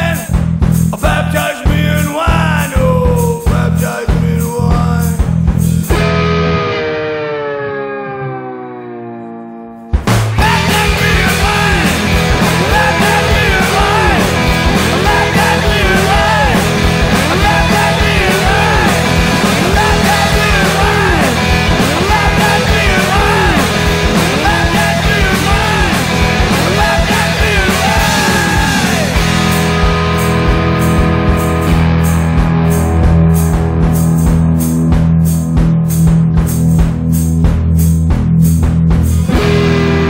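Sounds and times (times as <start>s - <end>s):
drums: 0.0s - 7.6s, 9.8s - 40.0s
bass guitar: 0.0s - 40.0s
electric guitar: 0.0s - 40.0s.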